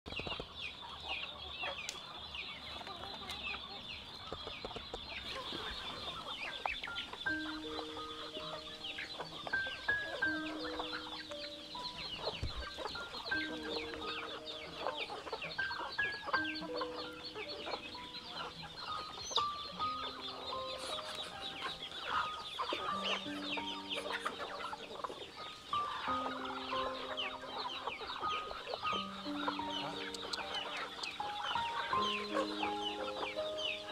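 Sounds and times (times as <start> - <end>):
background music with held notes: 0.1 - 33.9
chickens clucking and cheeping: 0.1 - 33.9
high chirping: 0.1 - 33.9.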